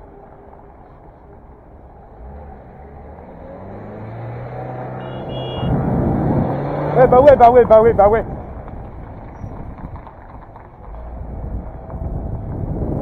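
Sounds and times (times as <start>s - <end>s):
van engine passing: 0.0s - 13.0s.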